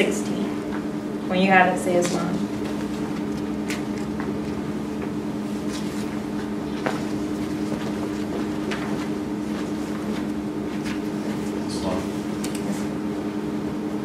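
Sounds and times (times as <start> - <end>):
low room hum with held tones: 0.0 - 14.0.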